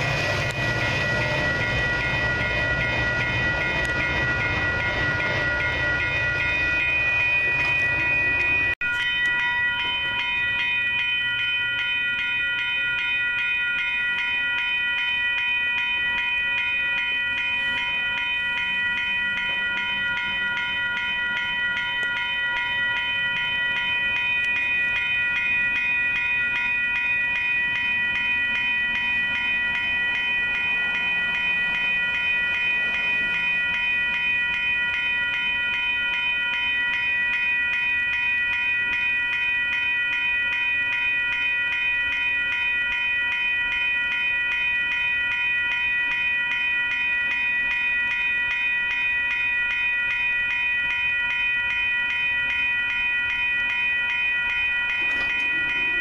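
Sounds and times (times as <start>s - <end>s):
railroad crossing bell ringing: 0.0s - 56.0s.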